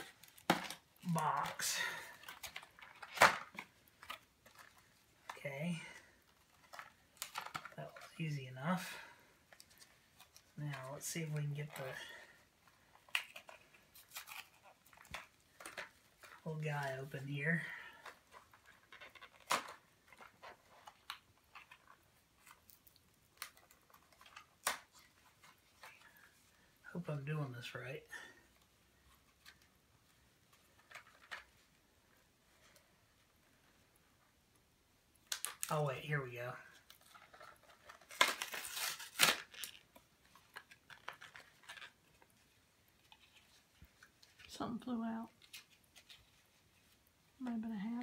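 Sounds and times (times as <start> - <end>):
plastic clicks and crinkles: 0.0 - 26.7, 28.3 - 35.8, 36.6 - 48.0.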